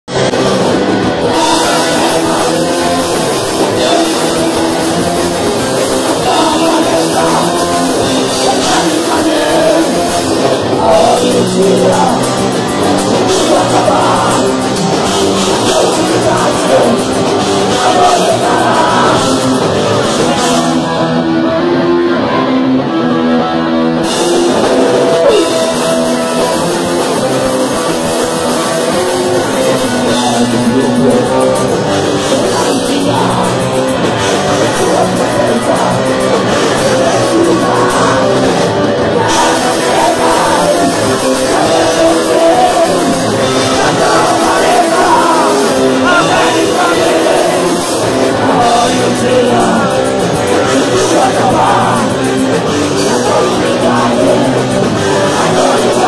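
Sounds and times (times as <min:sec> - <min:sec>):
distorted electric guitar: 0:00.0 - 0:56.0
person singing: 0:00.0 - 0:56.0
drum kit: 0:00.1 - 0:22.6, 0:23.4 - 0:56.0.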